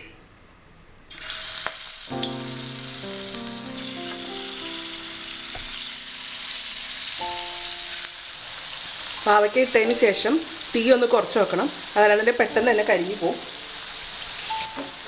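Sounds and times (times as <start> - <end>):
food sizzling in hot oil: 1.1 - 15.0.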